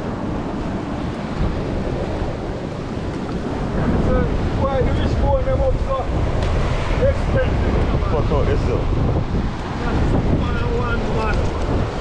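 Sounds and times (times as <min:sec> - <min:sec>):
surf on a beach: 0:00.0 - 0:12.0
wind buffeting microphone: 0:00.0 - 0:12.0.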